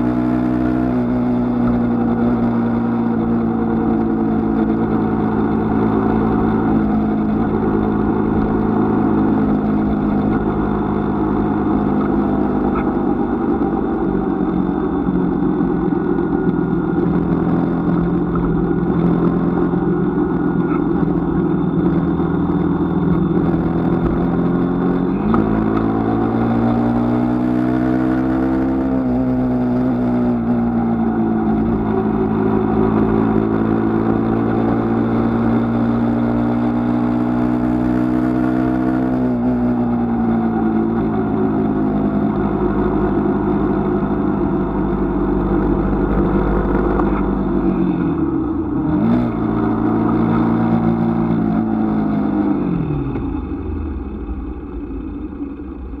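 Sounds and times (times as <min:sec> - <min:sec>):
road and wind noise: 0:00.0 - 0:56.0
vehicle engine running: 0:00.0 - 0:56.0.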